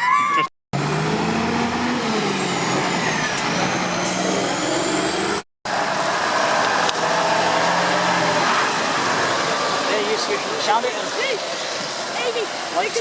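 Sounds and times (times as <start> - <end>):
lorry engine running: 0.8 - 13.0.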